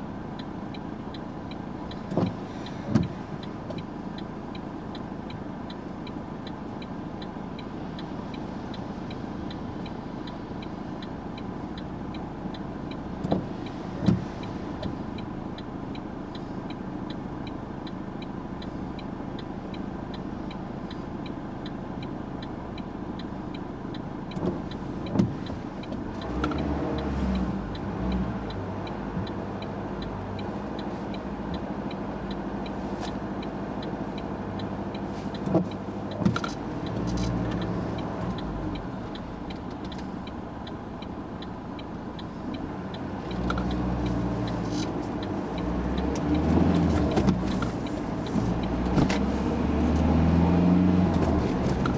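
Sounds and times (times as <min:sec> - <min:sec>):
passing traffic rumble: 0:00.0 - 0:51.9
turn indicator ticking: 0:00.0 - 0:51.9.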